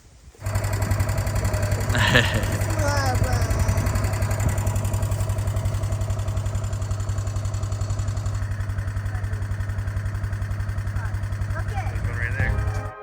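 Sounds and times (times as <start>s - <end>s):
vehicle engine idling: 0.4s - 13.0s.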